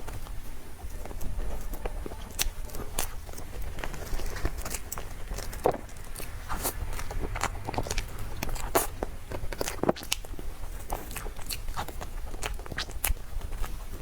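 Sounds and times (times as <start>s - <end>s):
person biting and chewing: 1.6s - 14.0s.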